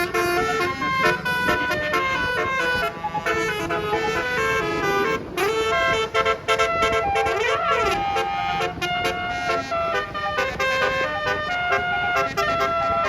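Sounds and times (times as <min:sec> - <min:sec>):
multi-note bus horn tune: 0:00.0 - 0:13.0.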